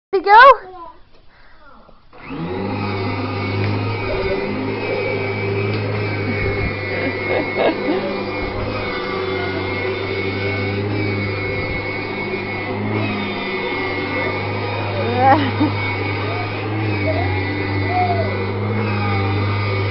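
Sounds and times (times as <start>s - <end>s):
vacuum cleaner running: 2.1s - 19.9s.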